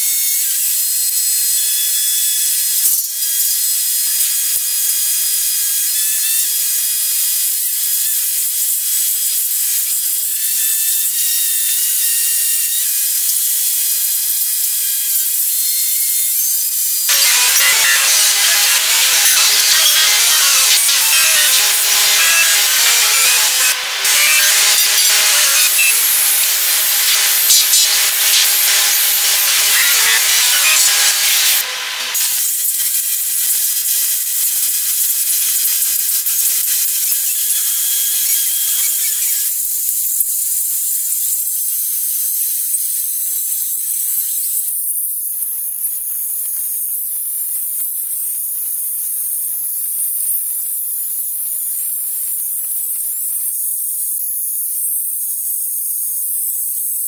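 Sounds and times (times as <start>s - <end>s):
high-pitched hiss: 7.0s - 57.0s.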